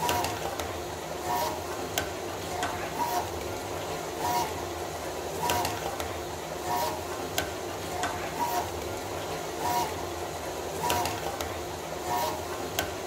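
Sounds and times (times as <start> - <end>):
labeling machine hum: 0.0 - 13.0.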